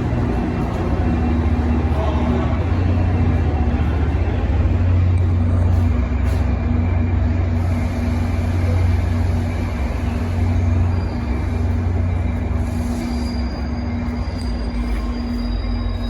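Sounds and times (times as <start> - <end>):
train idling: 0.0 - 16.0.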